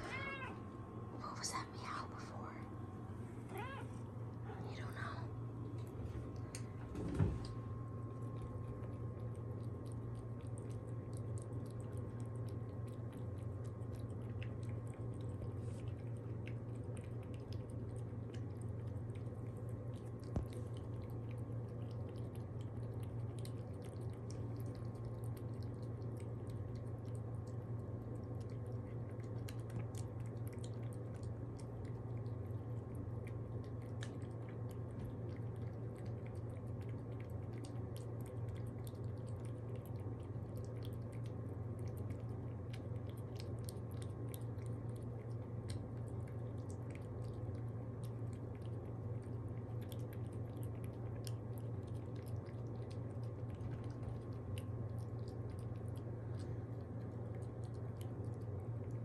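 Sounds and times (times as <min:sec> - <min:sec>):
steady low hum: 0:00.0 - 0:59.0
pet chewing wet food: 0:02.2 - 0:59.0.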